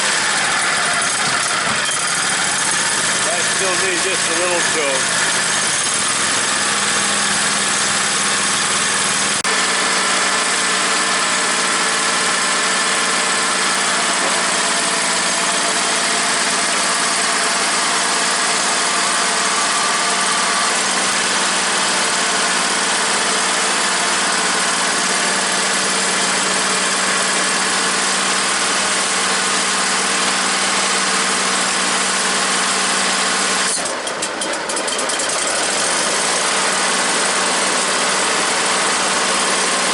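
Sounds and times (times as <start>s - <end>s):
engine running at full throttle: 0.0s - 39.9s.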